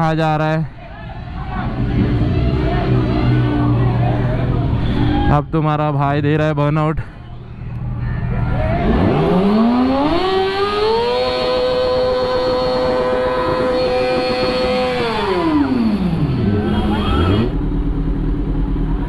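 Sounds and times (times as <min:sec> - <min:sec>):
motorcycle engine revving: 0:01.3 - 0:05.3, 0:07.7 - 0:19.0.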